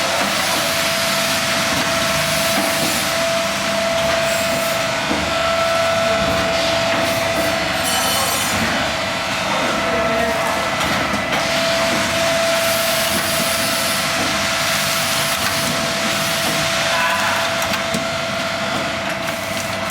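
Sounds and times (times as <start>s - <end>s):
filling machine running: 0.0s - 19.9s.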